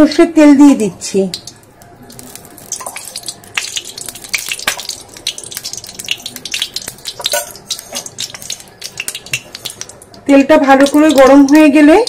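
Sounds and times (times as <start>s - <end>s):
oil crackling in a pan: 0.7s - 12.0s.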